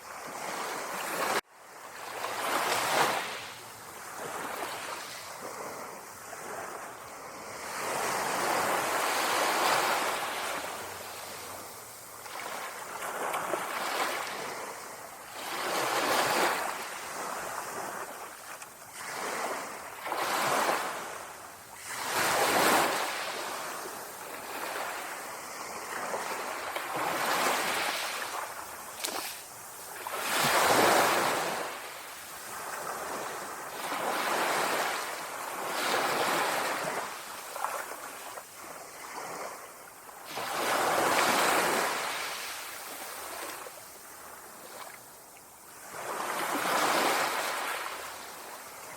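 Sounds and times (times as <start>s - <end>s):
small waves lapping on shore: 0.0s - 48.9s.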